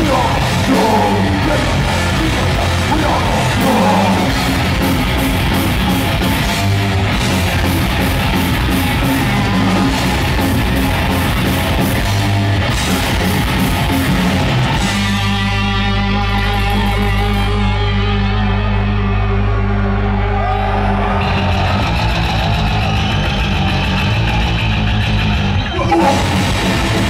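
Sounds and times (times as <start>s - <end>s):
metal band playing loud: 0.0s - 27.0s.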